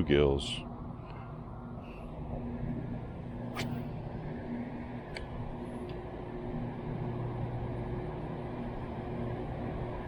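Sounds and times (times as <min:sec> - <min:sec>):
low drone with hum: 0:00.0 - 0:10.0.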